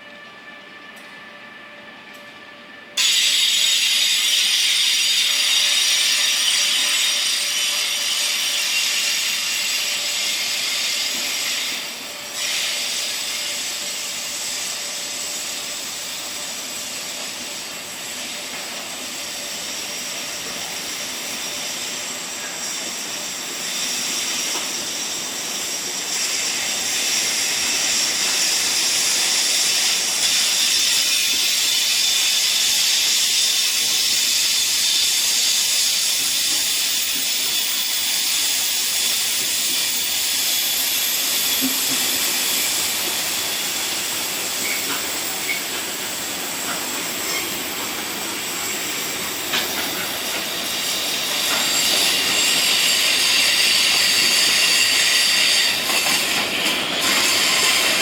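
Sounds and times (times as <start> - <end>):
train wheels squealing on rails: 0.0 - 58.0.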